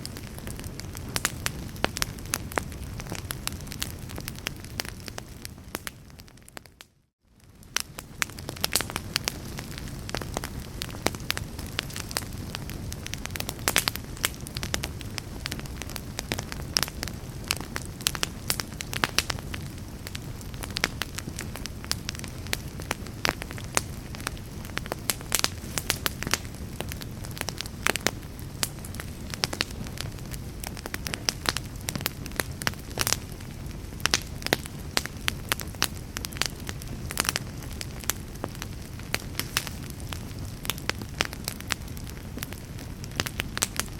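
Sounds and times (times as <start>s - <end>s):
fireplace fire crackling: 0.0s - 43.9s
low rumble of flames: 0.0s - 43.9s.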